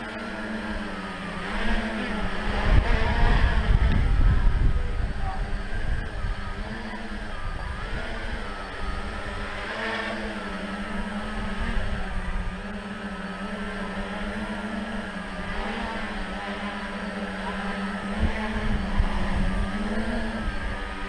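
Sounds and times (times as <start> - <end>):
drone motors and propellers buzzing: 0.0 - 21.0.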